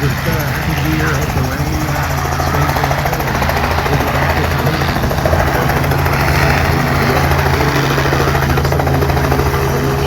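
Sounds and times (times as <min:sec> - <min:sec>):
helicopter engine hum: 0:00.0 - 0:10.0
helicopter rotor beat: 0:00.0 - 0:10.0.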